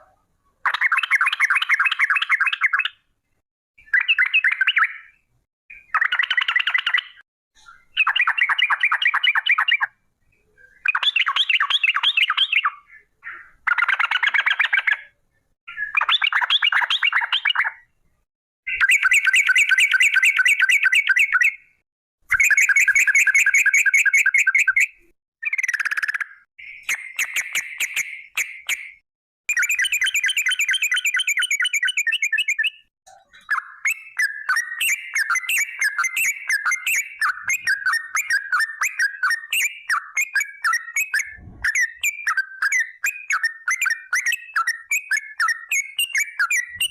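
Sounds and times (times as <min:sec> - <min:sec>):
bird singing rattling chatters: 0:00.6 - 0:03.0, 0:05.8 - 0:10.0, 0:10.7 - 0:15.1, 0:15.7 - 0:17.8, 0:18.7 - 0:21.7, 0:22.3 - 0:46.9.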